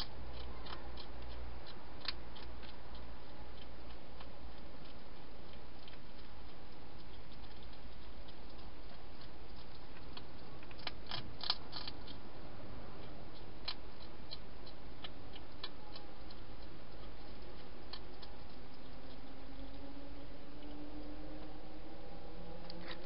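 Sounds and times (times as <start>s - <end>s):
hedgehog crunching dry food: 0.0s - 23.0s
steady background hiss: 0.0s - 23.0s.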